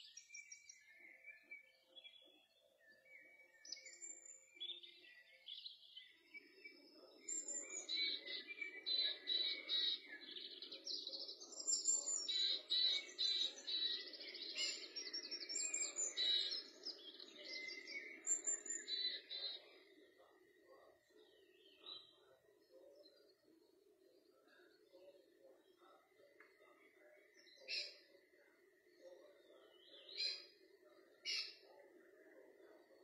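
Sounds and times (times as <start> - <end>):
songbirds chirping and trilling: 0.0 - 33.0.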